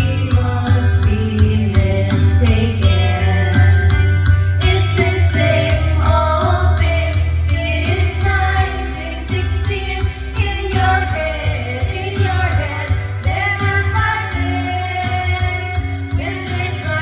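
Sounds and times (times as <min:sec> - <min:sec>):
pop backing track with bass: 0:00.0 - 0:17.0
women singing into microphones: 0:00.0 - 0:17.0.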